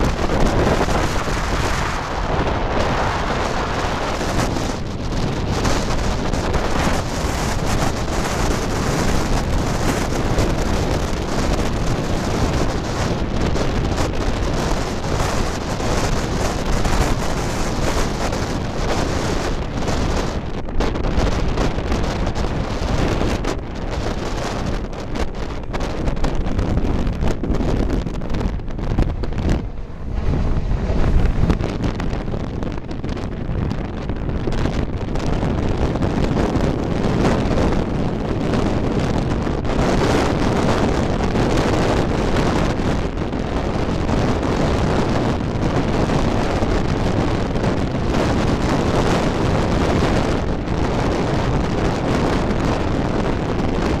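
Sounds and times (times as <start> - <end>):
jet engines roaring: 0.0 - 54.0
wind buffeting microphone: 0.0 - 54.0.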